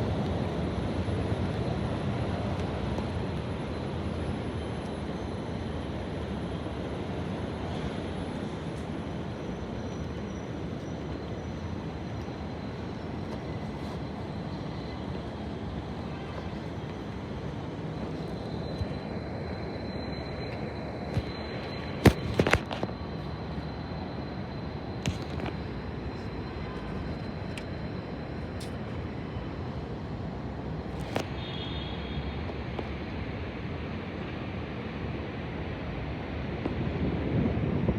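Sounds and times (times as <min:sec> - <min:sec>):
faint high whine: 0:00.0 - 0:37.9
subway train rumbling on tracks: 0:00.0 - 0:37.9.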